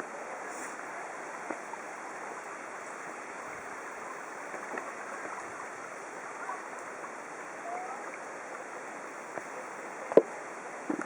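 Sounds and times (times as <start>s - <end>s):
flowing stream: 0.0s - 11.0s.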